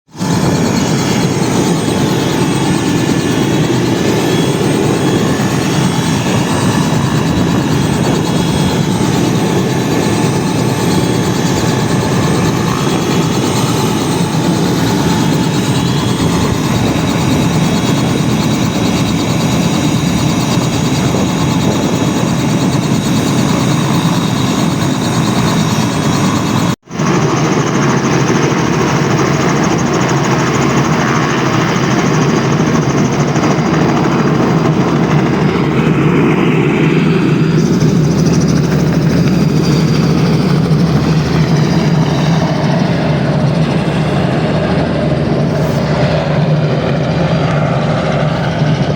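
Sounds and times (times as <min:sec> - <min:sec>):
helicopter rotor noise: 0:00.1 - 0:48.9
turboshaft engine whine: 0:00.1 - 0:48.9.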